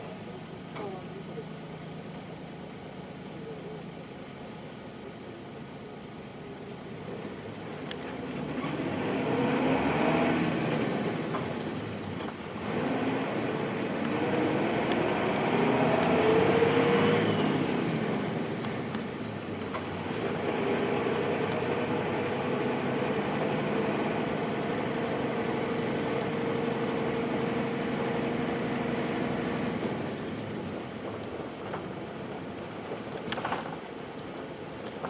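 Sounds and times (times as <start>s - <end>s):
bus diesel engine droning: 0.0s - 35.0s.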